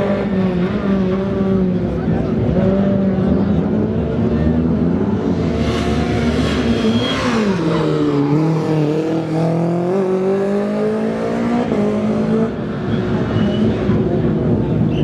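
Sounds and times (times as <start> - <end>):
rally car engine at full throttle: 0.0 - 15.0.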